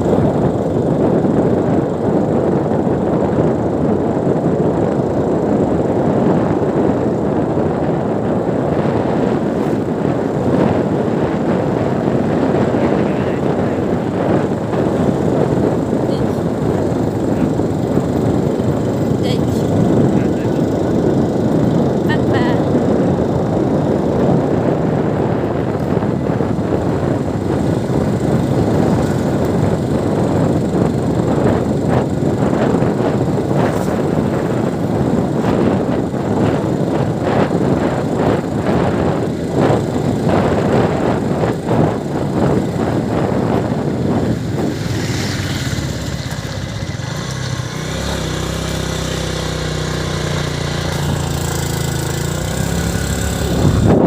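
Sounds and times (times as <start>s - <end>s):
road and buffeting noise: 0.0s - 54.0s
vehicle engine running: 0.0s - 54.0s.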